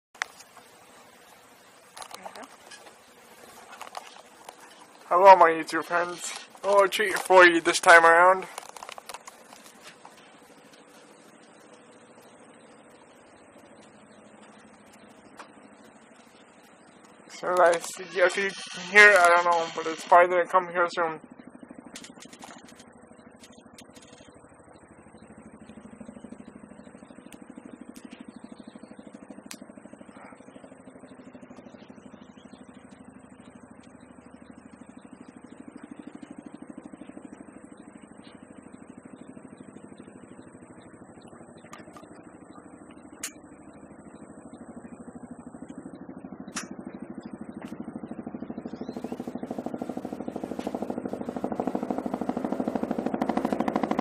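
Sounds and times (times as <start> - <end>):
helicopter rotor chop: 0.2 - 54.0.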